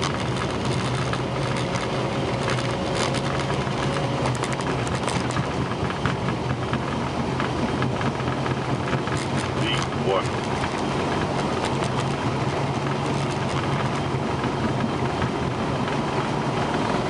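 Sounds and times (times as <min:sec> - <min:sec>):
rain ticking on windshield: 0:00.0 - 0:16.4
cockpit engine noise: 0:00.0 - 0:17.0.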